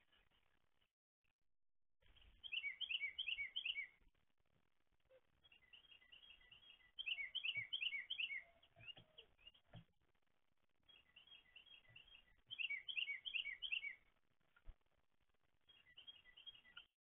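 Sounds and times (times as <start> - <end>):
songbird chirping: 2.0 - 17.0.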